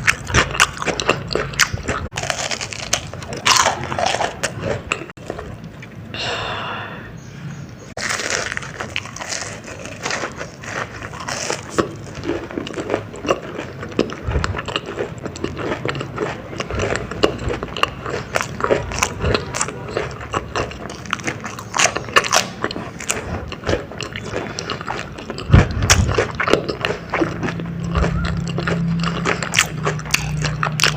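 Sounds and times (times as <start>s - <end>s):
crunchy chewing of fried food: 0.0s - 6.0s, 7.9s - 30.9s.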